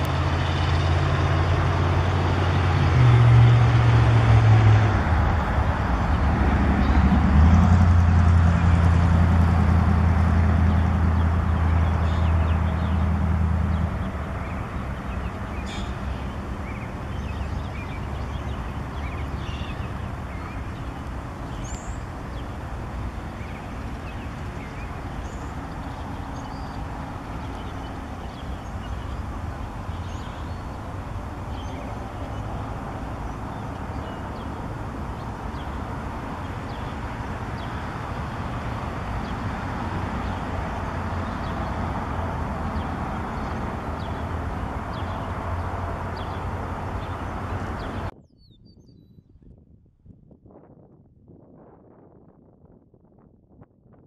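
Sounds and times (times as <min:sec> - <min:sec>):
distant traffic rumble: 0:00.0 - 0:48.3
low engine hum: 0:00.0 - 0:48.3.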